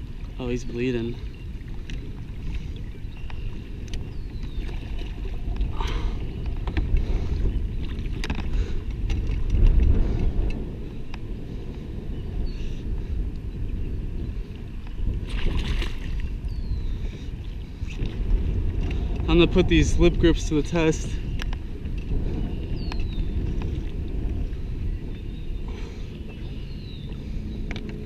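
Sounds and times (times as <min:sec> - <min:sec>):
water lapping against a kayak: 0:00.0 - 0:28.0
wind rumble on microphone: 0:00.0 - 0:28.0.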